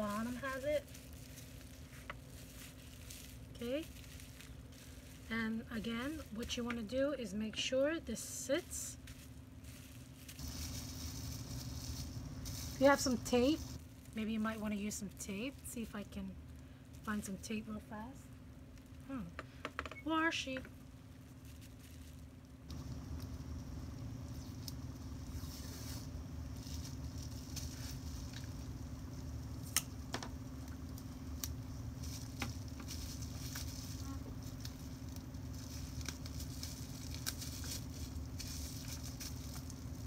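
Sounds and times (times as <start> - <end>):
bubble wrap crinkling: 0.0 - 7.0, 8.4 - 17.7, 18.3 - 19.2, 20.6 - 40.0
steady low hum: 0.0 - 40.0.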